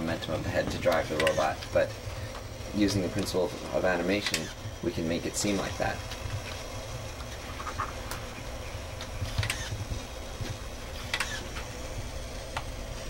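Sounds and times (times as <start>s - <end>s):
low steady hum: 0.0s - 13.0s
robot motors clicking: 0.1s - 13.0s.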